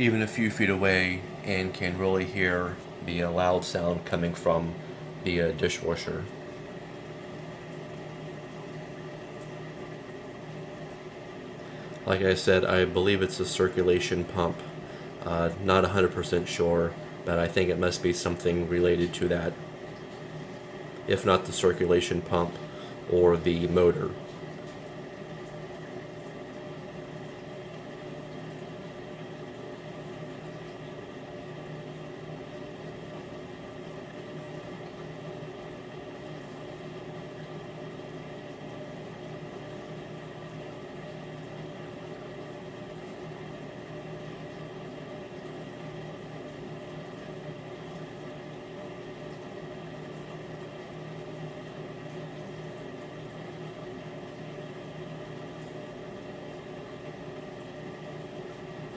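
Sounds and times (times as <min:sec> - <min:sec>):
dishwasher humming: 0:00.0 - 0:58.9
dishwasher water circulating: 0:00.0 - 0:58.9.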